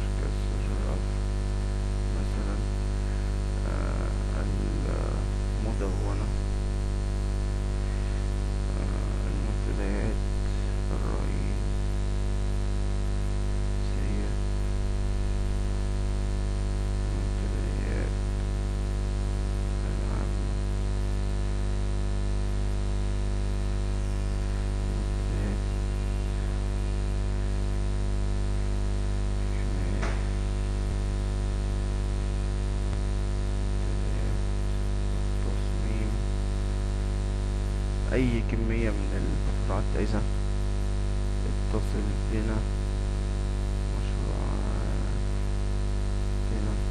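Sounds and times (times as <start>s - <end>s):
constant hiss: 0.0s - 46.9s
electrical mains hum: 0.0s - 46.9s.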